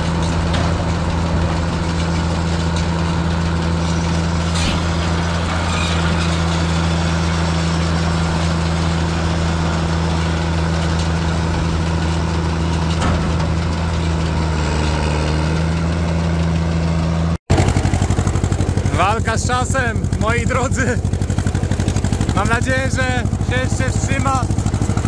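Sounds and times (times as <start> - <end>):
tractor engine chugging: 0.0 - 25.0
tractor engine running: 0.0 - 25.0.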